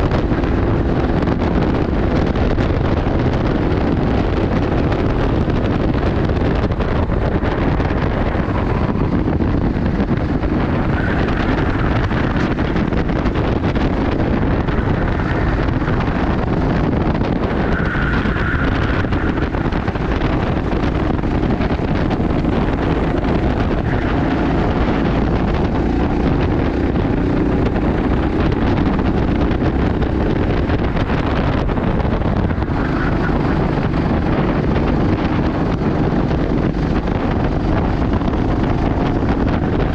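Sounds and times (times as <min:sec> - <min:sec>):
go-kart engine racing: 0:00.0 - 0:39.9
wind noise on microphone: 0:00.0 - 0:39.9.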